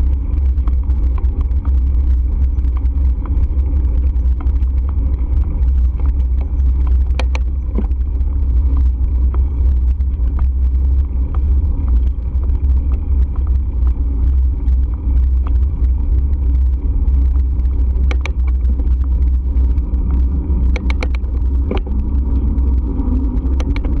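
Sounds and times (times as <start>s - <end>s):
wind and road noise rumble: 0.0s - 24.0s
bike clicks and rattles: 0.3s - 24.0s.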